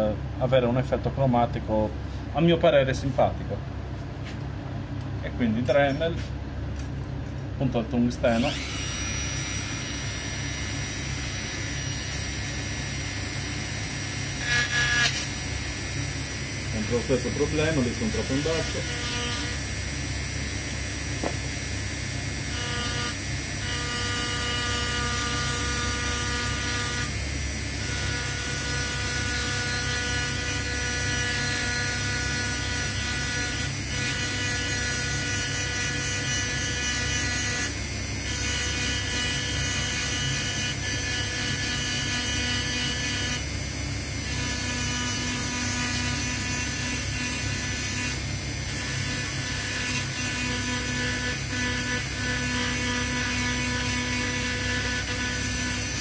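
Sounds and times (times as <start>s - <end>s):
rotary tool whining on metal: 8.3s - 20.3s, 22.4s - 56.0s.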